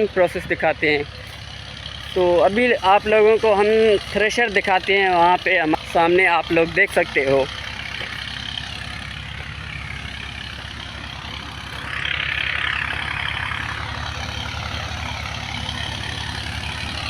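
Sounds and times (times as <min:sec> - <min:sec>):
low engine pulse: 0:00.0 - 0:17.0.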